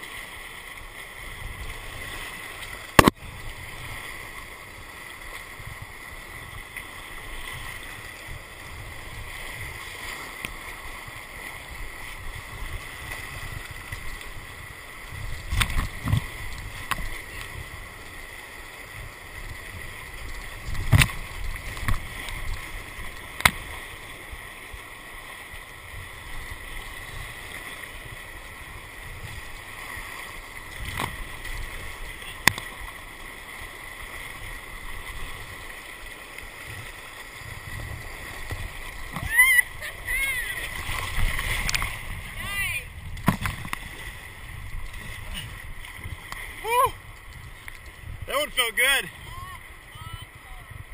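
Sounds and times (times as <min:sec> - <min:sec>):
whitewater rushing: 0:00.0 - 0:50.9
knocks and splashes on kayak: 0:00.9 - 0:50.9.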